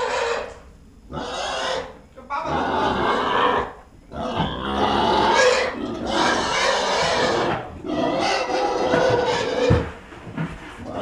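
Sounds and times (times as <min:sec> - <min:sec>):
pigs squealing: 0:00.0 - 0:10.0.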